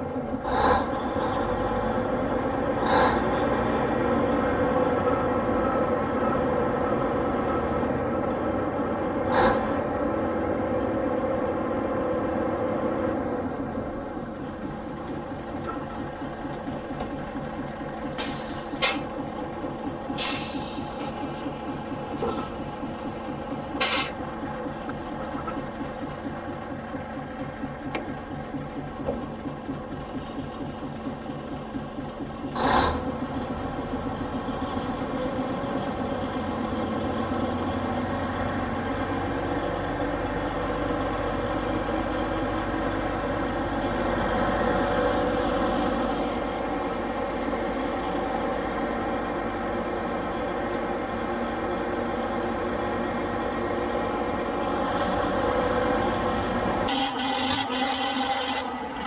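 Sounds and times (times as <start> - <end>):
crane engine and machinery running: 0.0 - 59.0.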